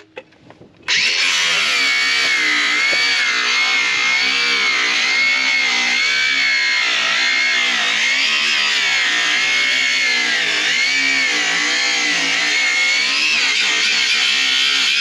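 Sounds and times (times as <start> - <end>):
angle grinder cutting metal: 0.9 - 15.0.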